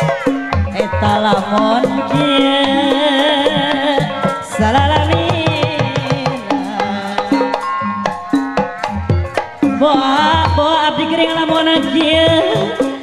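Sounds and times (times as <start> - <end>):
gamelan accompaniment: 0.0 - 13.0
person singing wavering line: 0.0 - 13.0.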